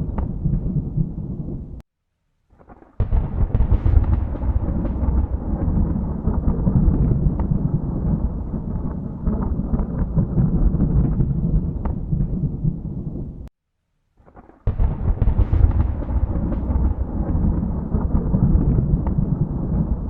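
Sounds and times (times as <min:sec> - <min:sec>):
thunder rumbling and cracking: 0:00.0 - 0:01.8, 0:02.6 - 0:13.5, 0:14.4 - 0:20.0.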